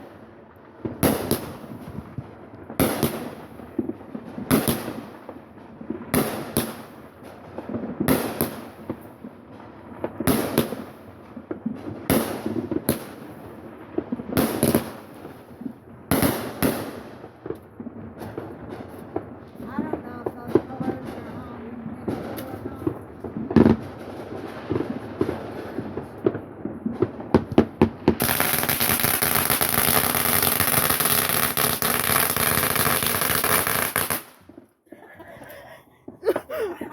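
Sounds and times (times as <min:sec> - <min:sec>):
fireworks banging and crackling: 0:00.0 - 0:36.9.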